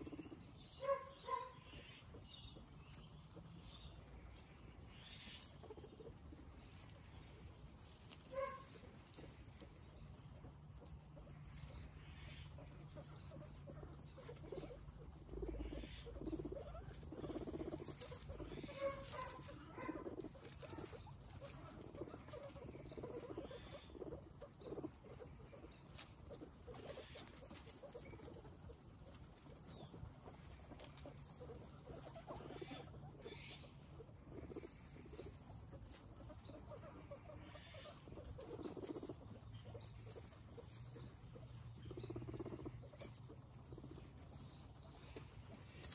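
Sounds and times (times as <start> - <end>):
guinea pigs munching: 0.0 - 45.9
rustling in straw: 0.0 - 45.9.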